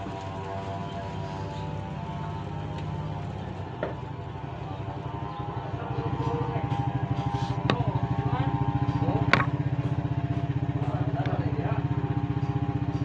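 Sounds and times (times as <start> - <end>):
small engine throbbing: 0.0 - 13.0.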